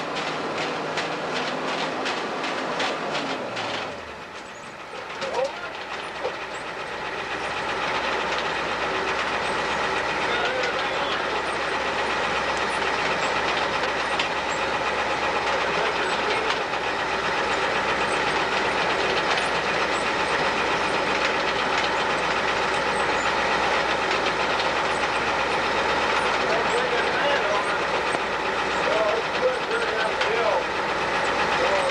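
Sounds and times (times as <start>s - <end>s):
heavy machinery rumbling: 0.0s - 31.9s.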